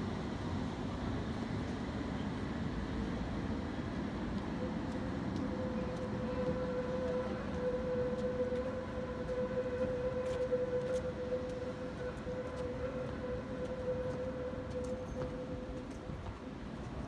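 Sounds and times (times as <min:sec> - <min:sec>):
city traffic rumble: 0:00.0 - 0:17.0
tram high whine: 0:00.0 - 0:17.0.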